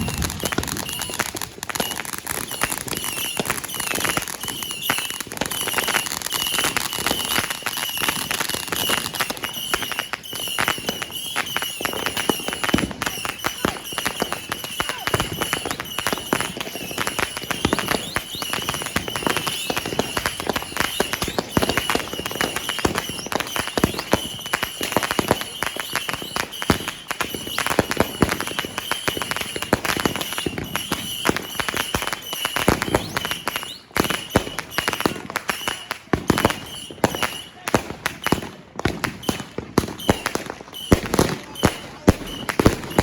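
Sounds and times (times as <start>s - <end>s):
firecrackers cracking and popping: 0.0s - 43.0s.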